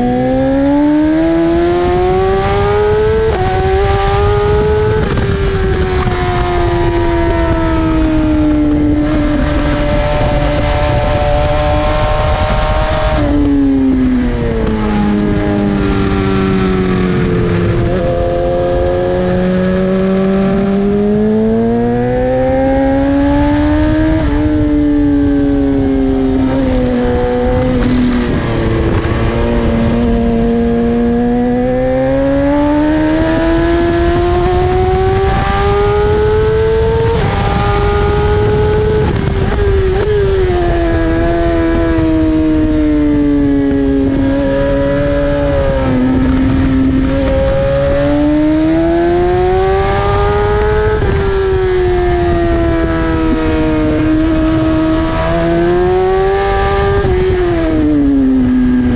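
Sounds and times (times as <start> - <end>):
motorcycle engine revving: 0.0 - 58.9
wind rushing: 0.0 - 58.9.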